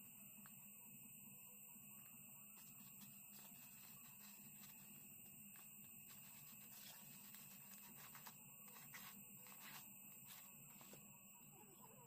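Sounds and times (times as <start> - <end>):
faint steady hum and hiss: 0.0 - 12.0.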